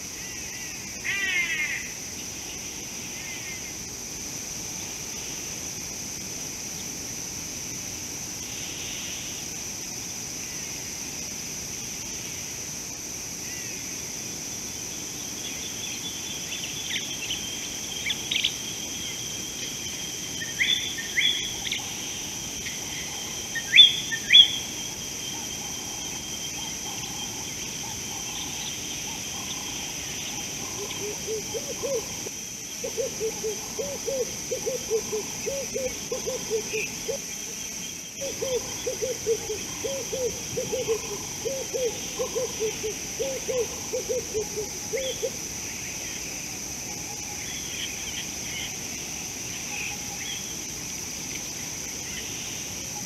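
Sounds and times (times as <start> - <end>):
outdoor background hiss: 0.0 - 53.0.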